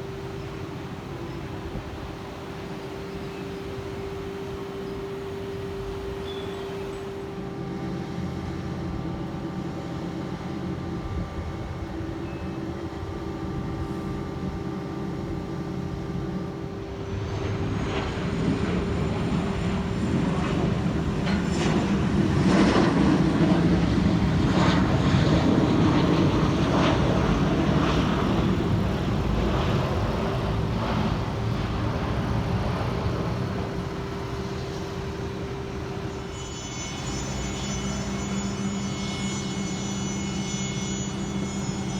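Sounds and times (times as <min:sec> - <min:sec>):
airplane engines: 0:00.0 - 0:41.9
high whine: 0:00.0 - 0:41.9
steady low hum: 0:00.0 - 0:41.9.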